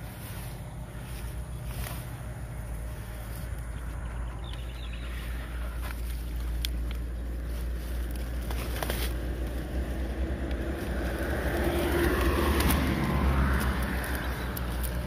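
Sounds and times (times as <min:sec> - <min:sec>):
road traffic: 0:00.0 - 0:15.0
vehicle passing: 0:00.0 - 0:15.0.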